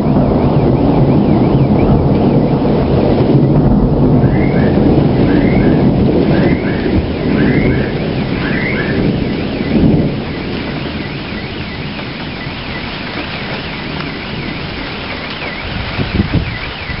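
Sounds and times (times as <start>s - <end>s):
car alarm whooping and warbling: 0.0s - 17.0s
steady rain: 0.0s - 17.0s
thunder rumbling: 0.0s - 17.0s.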